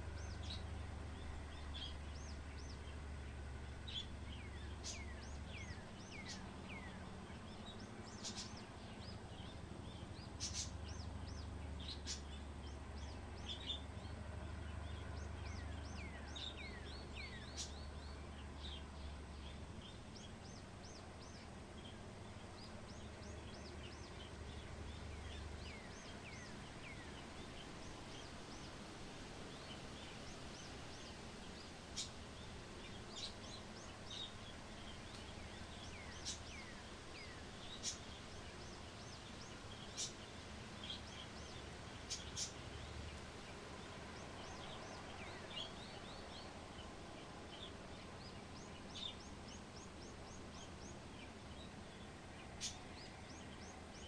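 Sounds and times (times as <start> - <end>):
low background rumble: 0.0 - 54.0
small birds chirping: 0.0 - 54.0.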